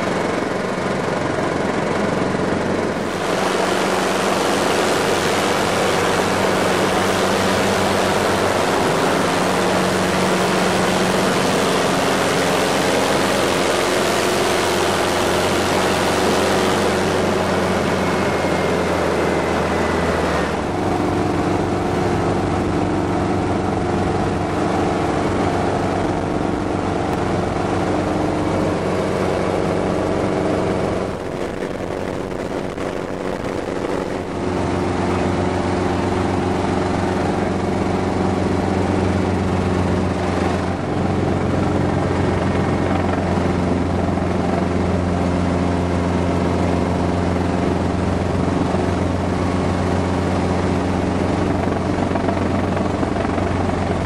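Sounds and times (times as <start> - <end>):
helicopter engine and rotor drone: 0.0 - 54.0
rush of wind noise: 0.0 - 54.0.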